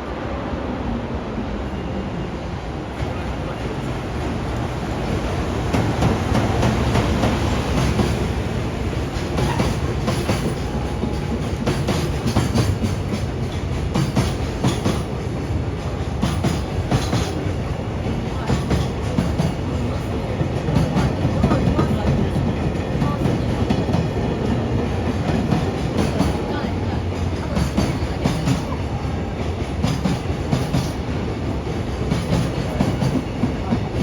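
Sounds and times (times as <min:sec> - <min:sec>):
freight train rolling at speed: 0:00.0 - 0:34.0.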